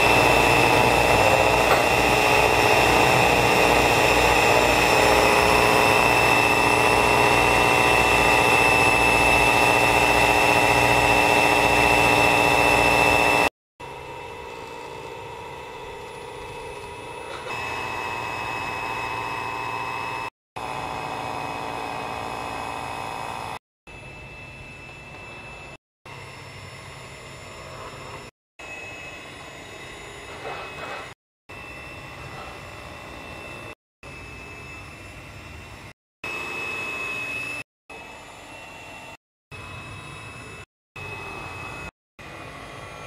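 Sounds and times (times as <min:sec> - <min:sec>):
electric hand mixer whining: 0:00.0 - 0:26.3, 0:27.1 - 0:43.0.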